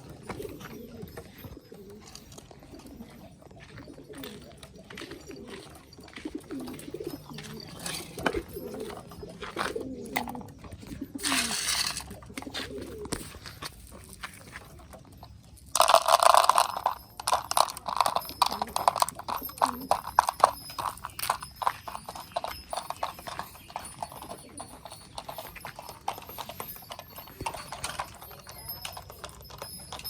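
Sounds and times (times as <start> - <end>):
pigeons cooing: 0.0 - 14.0, 16.1 - 30.0.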